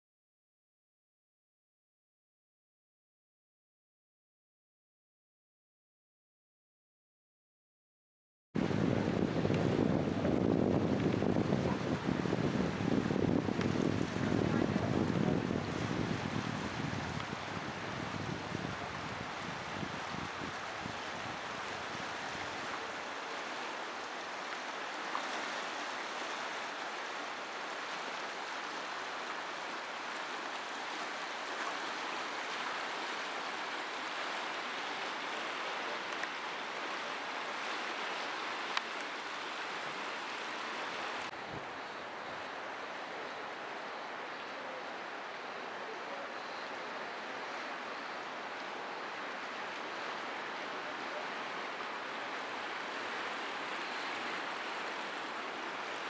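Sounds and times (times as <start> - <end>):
river rushing through rapids: 8.6 - 56.0.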